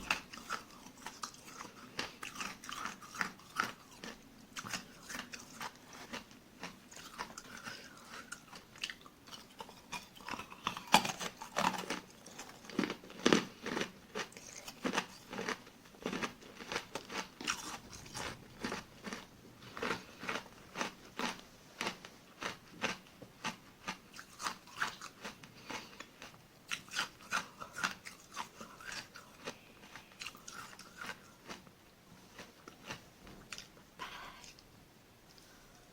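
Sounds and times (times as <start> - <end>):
chewing crunchy ice granules: 0.0 - 34.6.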